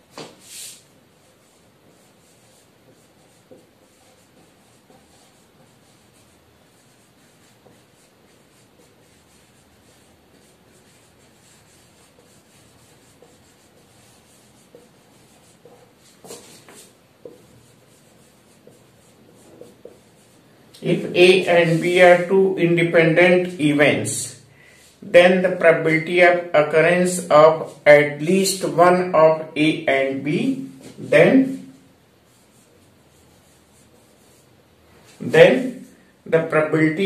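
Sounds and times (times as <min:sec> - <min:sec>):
marker pen writing on whiteboard: 0:00.0 - 0:37.0.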